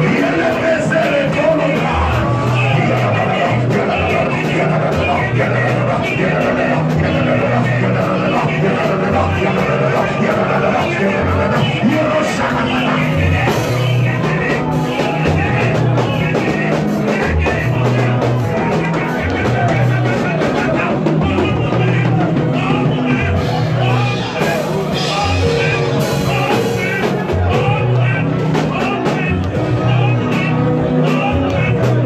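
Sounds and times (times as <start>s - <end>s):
band music with drums and bass: 0.0s - 32.0s
person singing: 0.0s - 32.0s.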